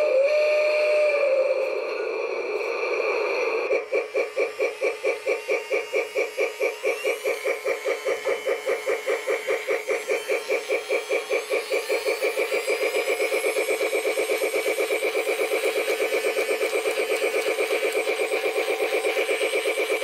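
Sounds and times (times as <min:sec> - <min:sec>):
electronic steam chuffing: 0:00.0 - 0:20.0.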